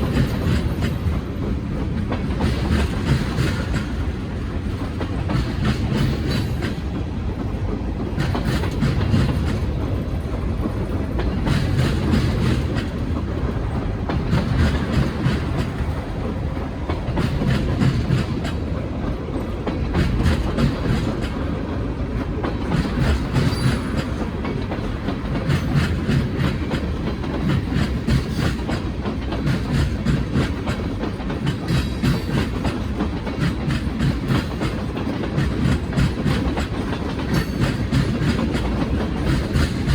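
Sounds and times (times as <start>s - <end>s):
low train rumble: 0.0s - 39.9s
train wheels clicking over rail joints: 0.0s - 39.9s.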